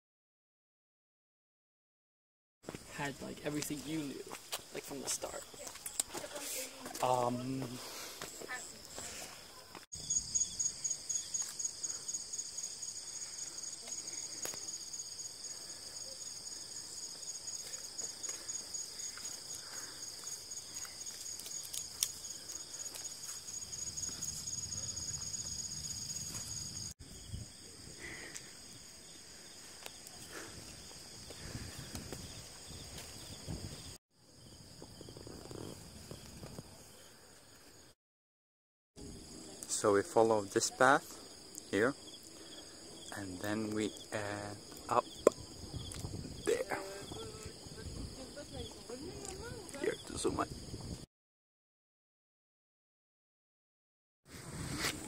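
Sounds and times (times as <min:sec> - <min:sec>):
insects trilling: 0:03.0 - 0:37.9, 0:39.0 - 0:51.0.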